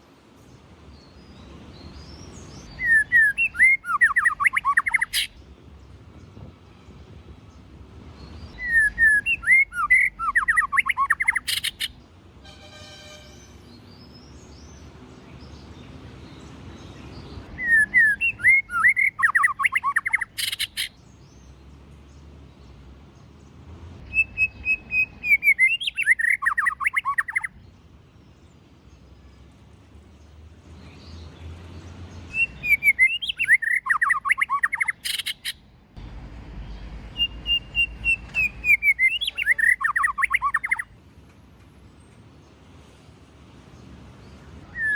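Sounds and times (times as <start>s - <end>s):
bird singing: 0.4s - 6.3s, 8.2s - 35.9s, 36.6s - 41.0s, 43.8s - 44.9s.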